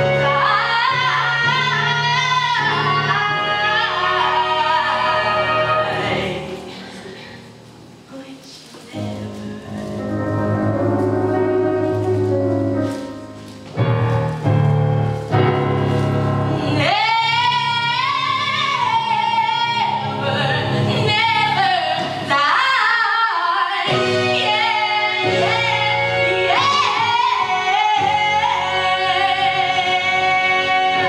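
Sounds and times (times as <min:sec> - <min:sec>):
musical accompaniment: 0:00.0 - 0:08.2, 0:08.9 - 0:22.9, 0:23.7 - 0:31.0.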